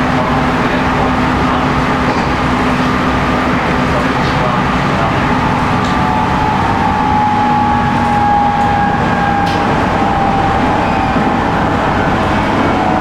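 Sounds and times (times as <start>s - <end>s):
train motor whine: 0.0s - 13.0s
train rolling rumble: 0.0s - 13.0s.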